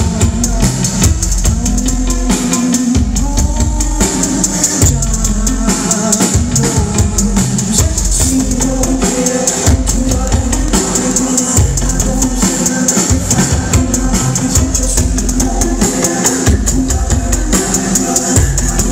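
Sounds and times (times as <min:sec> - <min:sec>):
band music with drums and bass: 0:00.0 - 0:18.9.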